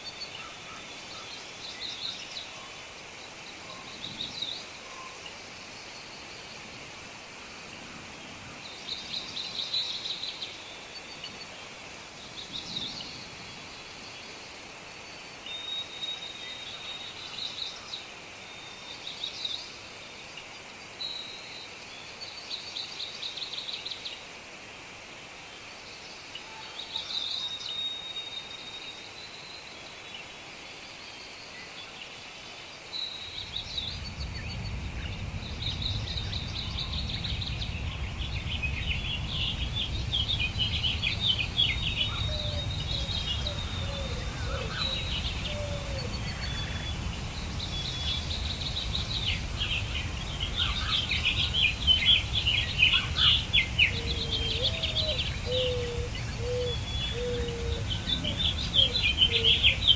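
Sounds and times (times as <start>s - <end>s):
songbirds trilling and chirping: 0.0s - 24.4s, 25.2s - 59.9s
steady high hiss: 0.0s - 59.9s.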